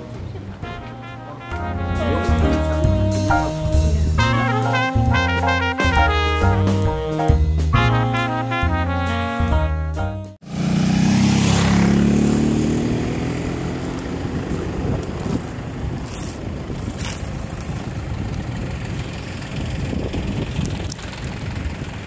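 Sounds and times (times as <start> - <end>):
road and wind noise: 0.0 - 8.0, 10.4 - 22.0
vehicle engine running: 1.3 - 8.3, 10.4 - 22.0.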